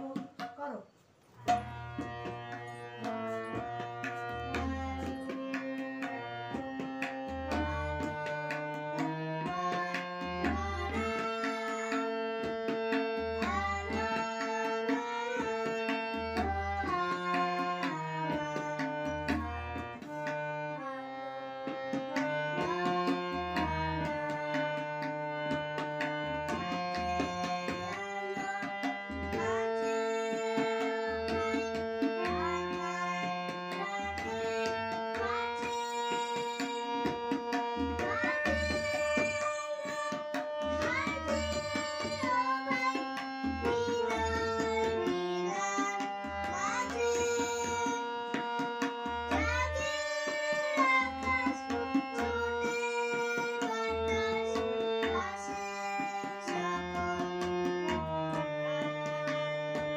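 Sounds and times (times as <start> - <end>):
harmonium melody: 1.4 - 59.9.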